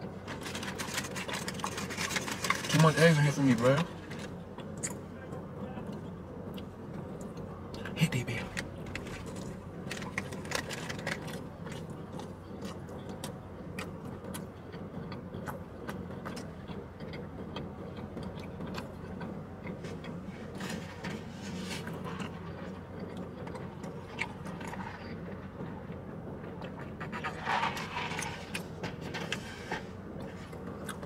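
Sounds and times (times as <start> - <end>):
steady low hum: 0.0 - 31.0
wet chewing clicks and smacks: 4.1 - 5.0, 5.9 - 29.4, 30.1 - 31.0.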